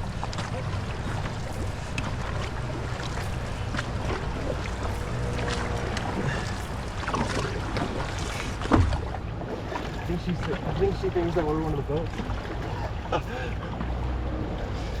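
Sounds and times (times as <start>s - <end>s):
paddles dipping and splashing: 0.0s - 15.0s
wind rumble on microphone: 0.0s - 15.0s.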